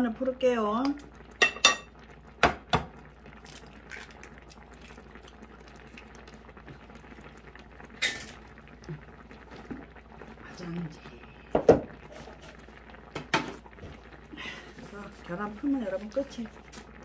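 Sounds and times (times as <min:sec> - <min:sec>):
soup bubbling in a pot: 0:00.0 - 0:17.0.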